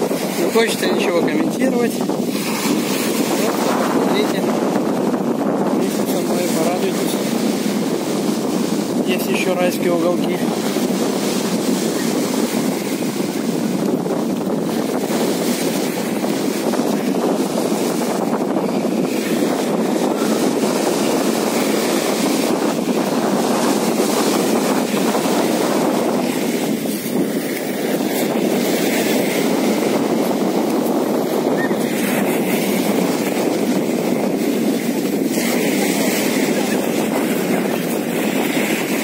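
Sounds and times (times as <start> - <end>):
surf washing on pebble beach: 0.0 - 39.0
wind on microphone: 0.0 - 39.0.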